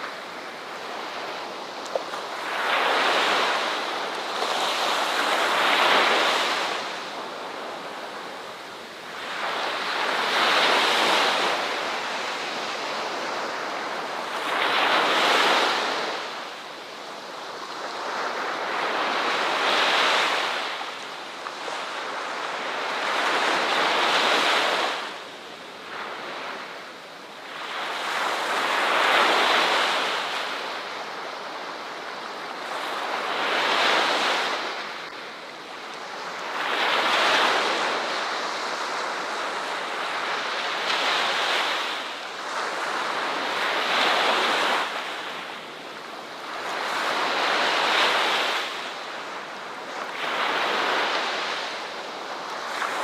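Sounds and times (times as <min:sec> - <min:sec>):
ocean waves breaking on beach: 0:00.0 - 0:53.0.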